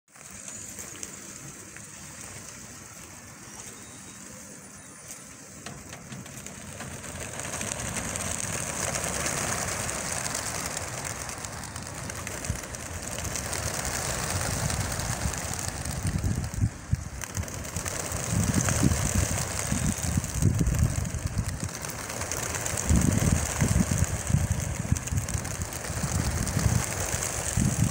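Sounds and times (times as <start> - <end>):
pigeon flock wingbeats: 0.2 - 27.9.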